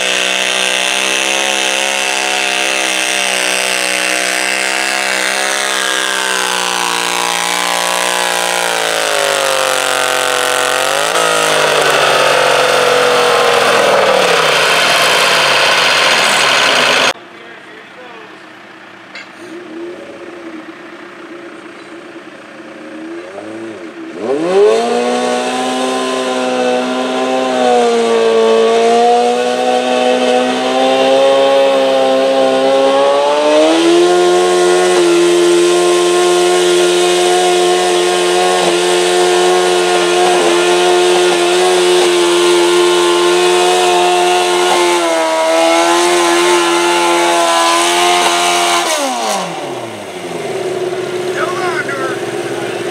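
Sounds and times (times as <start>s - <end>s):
garden tractor engine revving: 0.0s - 17.6s, 19.2s - 52.9s.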